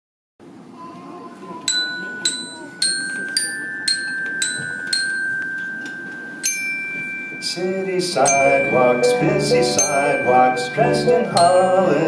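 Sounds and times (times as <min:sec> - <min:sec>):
ringing bell-like tones: 0:01.7 - 0:12.0.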